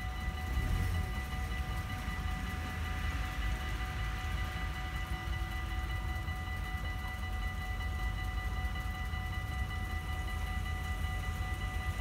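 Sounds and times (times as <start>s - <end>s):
level-crossing warning bells: 0.0s - 12.0s.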